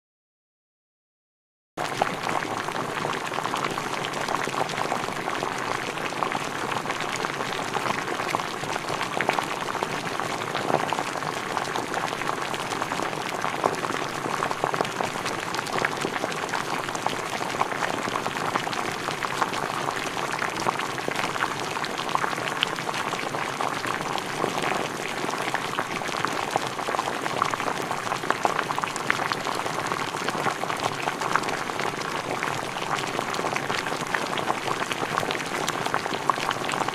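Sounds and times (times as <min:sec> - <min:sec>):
liquid boiling and bubbling: 0:01.8 - 0:36.9.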